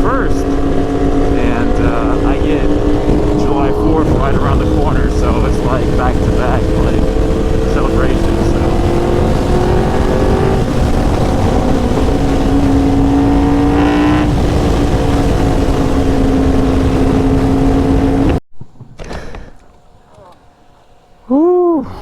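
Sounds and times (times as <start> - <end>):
wind rush: 0.0 - 19.7
motorcycle engine cruising: 0.0 - 21.6.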